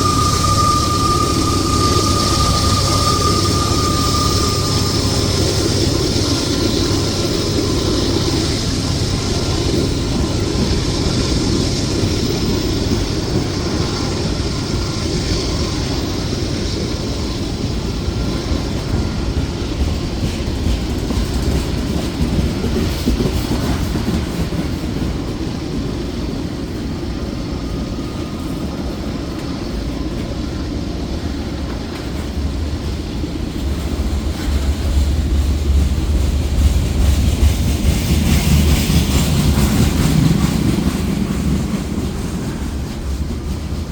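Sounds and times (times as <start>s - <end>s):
train cars rumbling: 0.0s - 43.9s.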